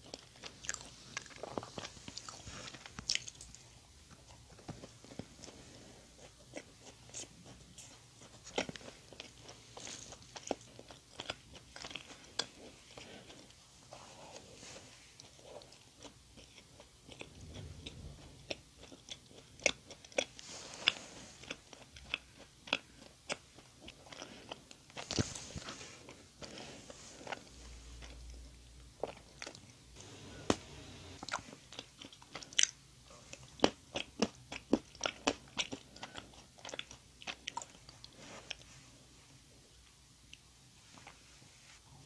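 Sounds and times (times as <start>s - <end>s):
chewing with mouth clicks: 0.0s - 30.1s, 31.2s - 38.7s.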